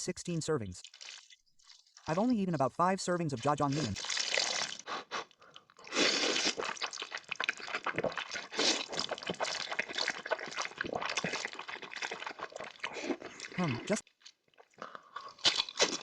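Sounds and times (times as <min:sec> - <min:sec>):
noodles being slurped: 0:00.8 - 0:02.6, 0:03.4 - 0:16.0.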